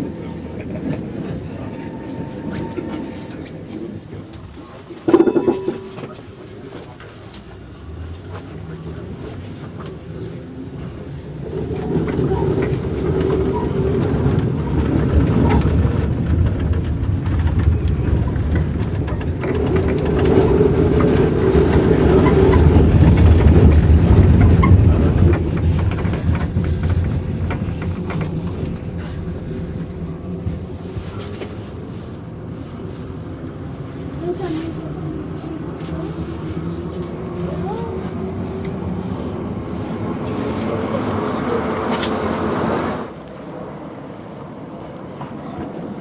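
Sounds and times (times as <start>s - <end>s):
tram running on track: 0.0s - 46.0s.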